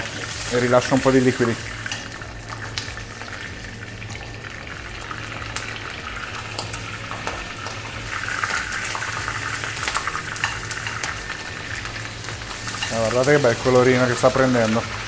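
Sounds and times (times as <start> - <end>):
chicken sizzling in frying pan: 0.0 - 15.0
oil popping and crackling: 0.0 - 15.0.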